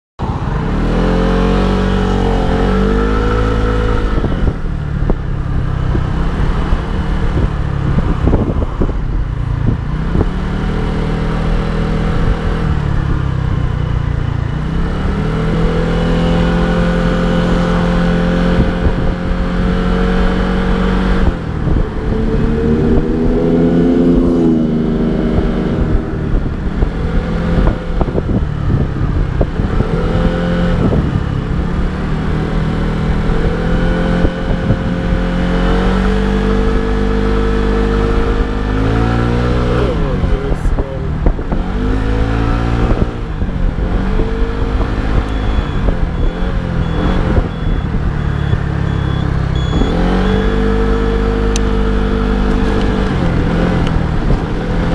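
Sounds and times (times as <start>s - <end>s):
scooter engine accelerating and cruising: 0.2s - 54.9s
wind and road noise: 0.2s - 54.9s.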